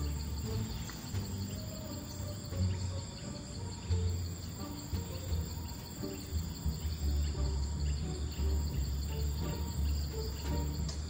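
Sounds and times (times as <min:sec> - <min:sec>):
background music with bass: 0:00.0 - 0:11.0
insects chirring: 0:00.0 - 0:11.0.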